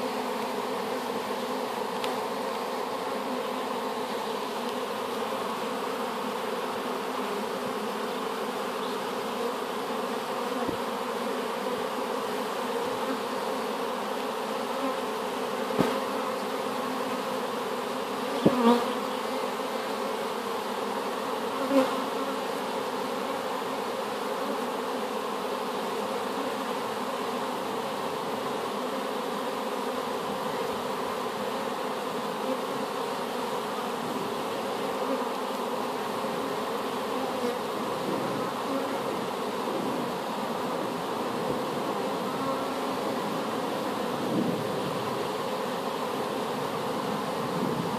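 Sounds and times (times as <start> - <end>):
bee buzzing past: 0.0 - 47.9
hum of many bees: 0.0 - 47.9.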